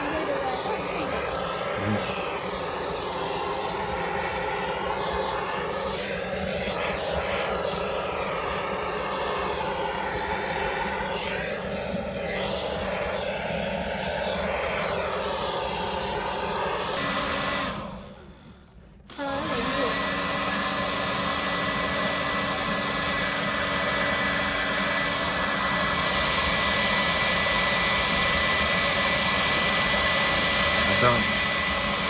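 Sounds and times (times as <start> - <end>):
hair dryer blowing air: 0.0 - 32.0.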